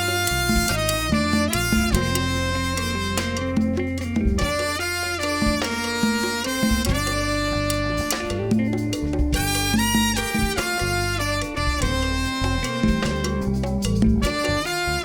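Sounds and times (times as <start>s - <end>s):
drums and percussion: 0.0s - 15.0s
electric bass: 0.0s - 15.0s
saxophone: 0.0s - 15.0s
trumpet: 0.0s - 15.0s.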